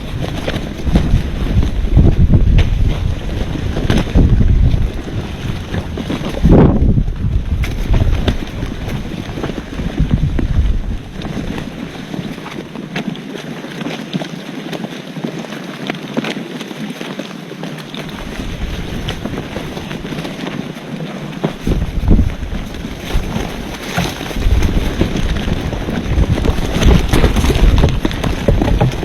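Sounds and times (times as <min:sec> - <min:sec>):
wind buffeting microphone: 0:00.0 - 0:13.7, 0:17.8 - 0:29.0
faint clicks and rustles: 0:00.0 - 0:29.0.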